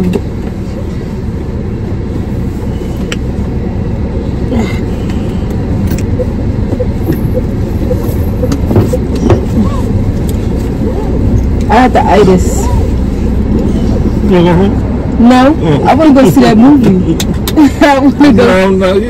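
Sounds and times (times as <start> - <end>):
car cabin low rumble: 0.0 - 19.0.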